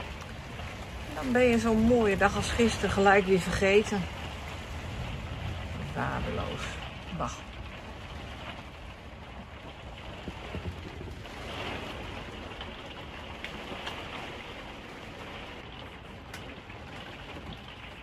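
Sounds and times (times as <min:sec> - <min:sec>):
heavy rain on vehicle windscreen: 0:00.0 - 0:18.0.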